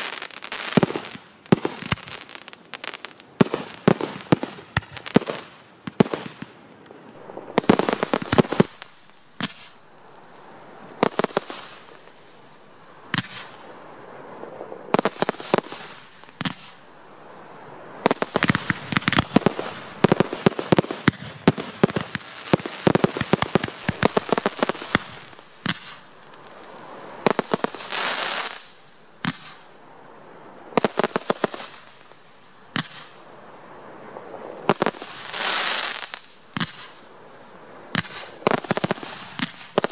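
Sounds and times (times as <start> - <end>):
loud firework hiss: 0.0 - 6.5, 7.1 - 39.9
fireworks bangs and crackles: 0.0 - 16.8, 18.0 - 29.8, 30.7 - 33.2, 34.2 - 37.1, 37.7 - 39.9.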